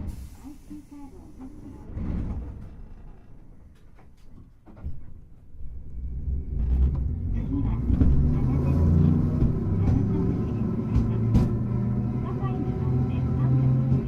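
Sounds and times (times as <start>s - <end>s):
tram running rumble: 0.0s - 14.0s.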